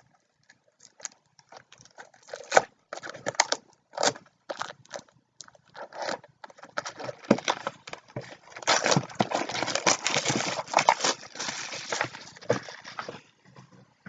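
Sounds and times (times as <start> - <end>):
plastic wrap crinkling: 0.0 - 13.8
cardboard rustling: 0.8 - 14.0.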